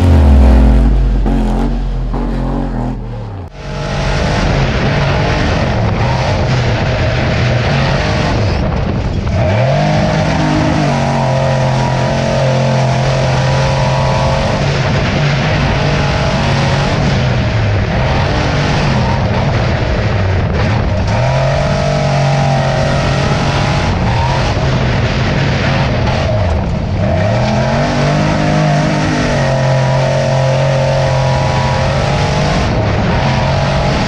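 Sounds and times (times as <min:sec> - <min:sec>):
truck engine under load: 0:00.0 - 0:34.0.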